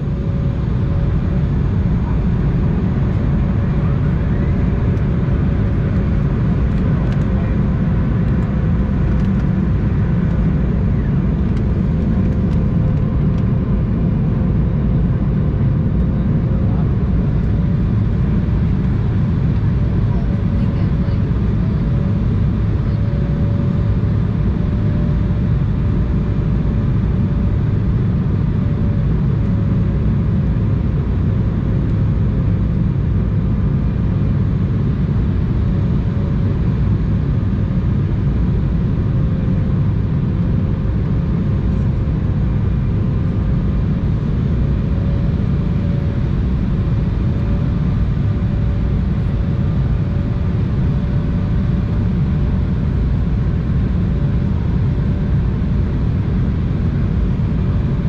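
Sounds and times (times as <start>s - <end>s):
airliner cabin rumble: 0.0s - 58.0s
steady mid-pitched hum: 0.0s - 58.0s.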